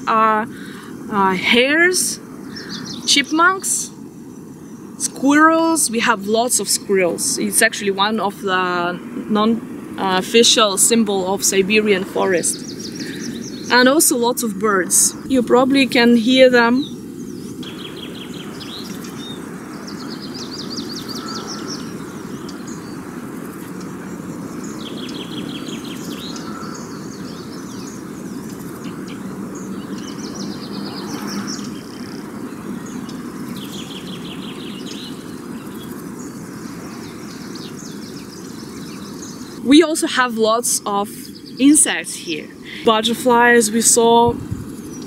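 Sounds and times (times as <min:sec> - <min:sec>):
songbirds trilling: 0:00.0 - 0:45.0.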